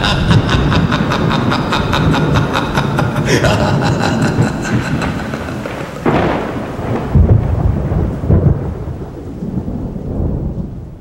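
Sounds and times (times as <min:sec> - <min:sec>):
rain hissing: 0:00.0 - 0:11.0
rolling thunder rumbles: 0:00.0 - 0:11.0
thunderclap: 0:00.0 - 0:11.0.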